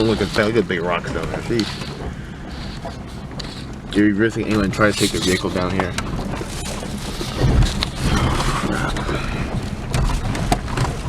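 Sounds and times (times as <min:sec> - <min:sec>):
knocks and rattles: 0:00.0 - 0:11.0
truck engine rumble: 0:00.0 - 0:11.0.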